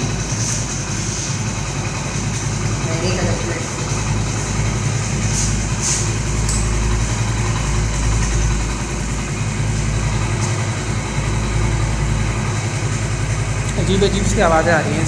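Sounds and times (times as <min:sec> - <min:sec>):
motorcycle engine idling: 0:00.0 - 0:15.0
sharp engine clicks: 0:00.0 - 0:15.0.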